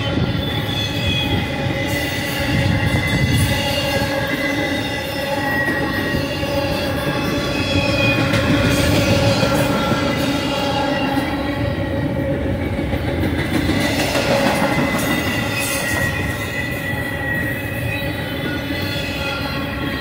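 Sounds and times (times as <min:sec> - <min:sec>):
wheels squealing: 0:00.0 - 0:12.0, 0:13.6 - 0:20.0
train wheels rumbling on rail: 0:00.0 - 0:20.0.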